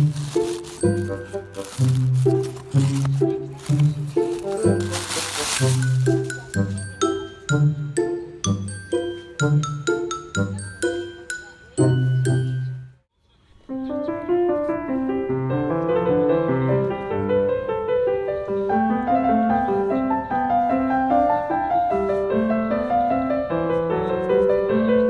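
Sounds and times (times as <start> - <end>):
piano music: 0.0 - 13.0, 14.0 - 25.0.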